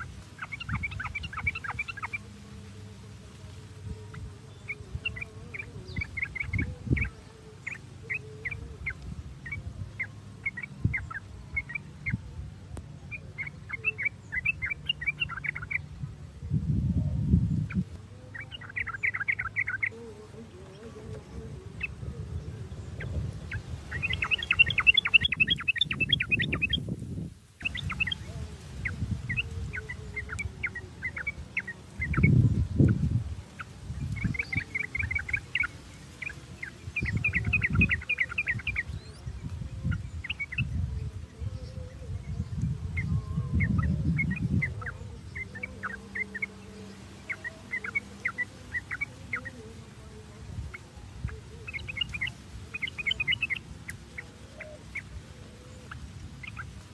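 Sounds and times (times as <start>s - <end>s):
bulbuls chattering: 0.0s - 56.9s.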